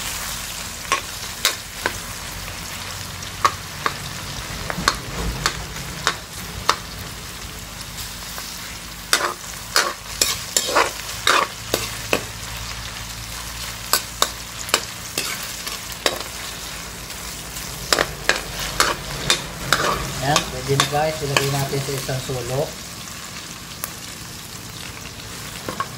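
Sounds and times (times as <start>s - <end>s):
okra sizzling in hot oil: 0.0s - 25.9s
metal ladle scraping wok: 0.8s - 22.6s.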